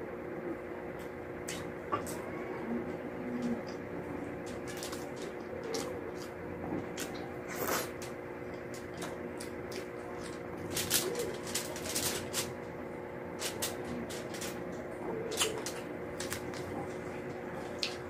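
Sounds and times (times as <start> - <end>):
steady multi-tone hum: 0.0 - 18.0.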